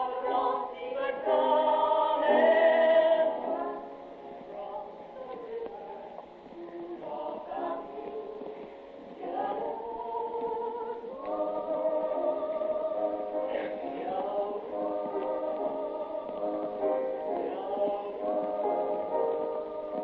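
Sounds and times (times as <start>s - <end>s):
singers in harmony: 0.0s - 20.0s.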